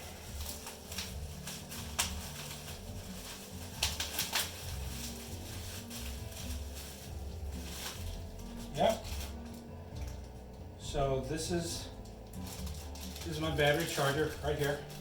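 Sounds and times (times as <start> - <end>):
packaging rustling: 0.0 - 10.6, 11.8 - 15.0.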